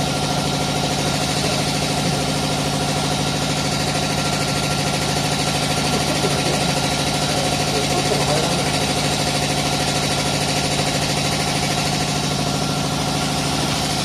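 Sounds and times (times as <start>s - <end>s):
machine pulsing hum: 0.0s - 14.0s.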